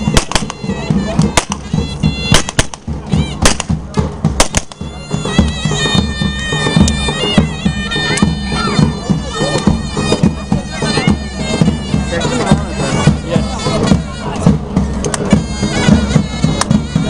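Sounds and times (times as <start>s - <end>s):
shrill reedy pipe melody: 0.0s - 3.8s, 4.4s - 17.0s
steady drum beats: 0.0s - 17.0s.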